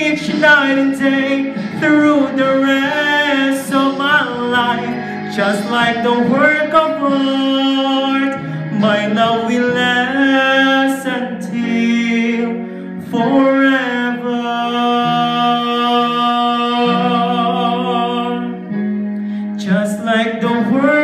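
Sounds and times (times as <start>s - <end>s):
instrumental backing: 0.0s - 21.0s
man singing a ballad: 0.0s - 21.0s.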